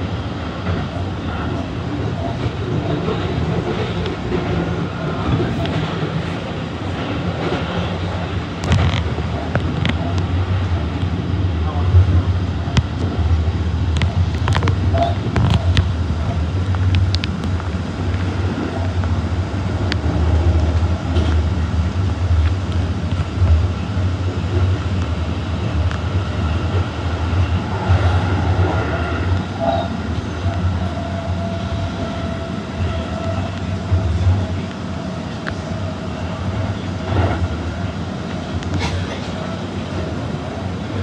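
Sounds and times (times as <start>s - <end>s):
train rumbling on rails: 0.0s - 41.0s.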